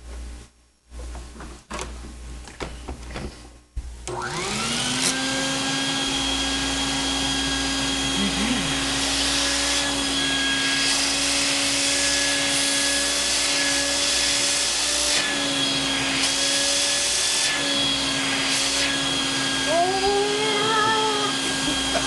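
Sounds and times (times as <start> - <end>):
vacuum cleaner motor whining: 4.0 - 22.0.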